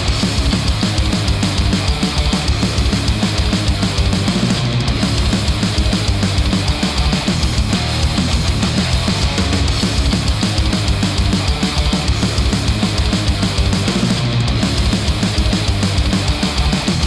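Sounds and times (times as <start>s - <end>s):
heavy rock music: 0.0s - 17.0s.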